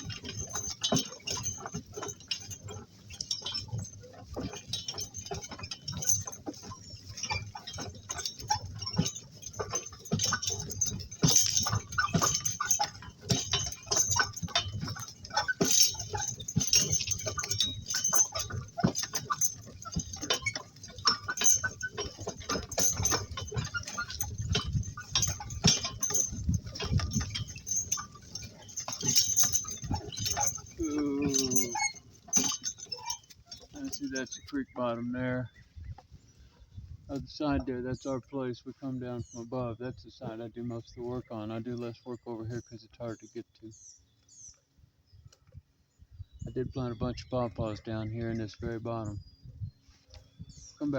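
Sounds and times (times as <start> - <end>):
cart rumble: 0.0 - 50.9
harness clinking: 0.0 - 50.9
hooves and cart knocking: 0.0 - 50.9.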